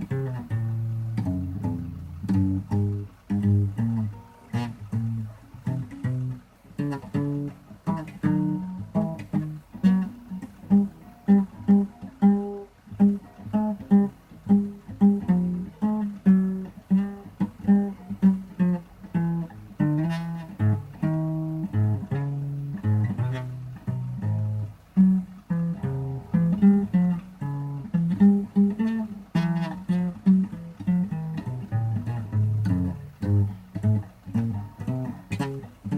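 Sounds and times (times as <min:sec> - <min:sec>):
guitar playing blues notes: 0:00.0 - 0:35.9.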